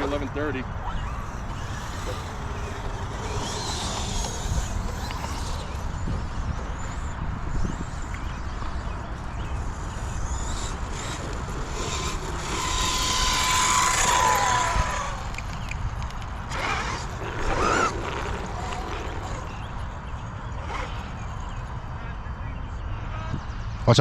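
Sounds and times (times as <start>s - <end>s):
electric motor whine: 0.0s - 21.7s
wind noise: 0.0s - 24.0s.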